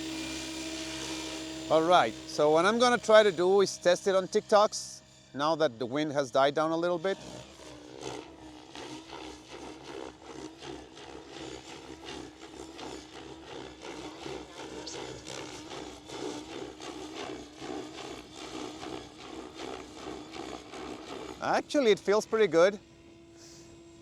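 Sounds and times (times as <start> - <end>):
rc helicopter rotor hum wavering: 0.0 - 24.0.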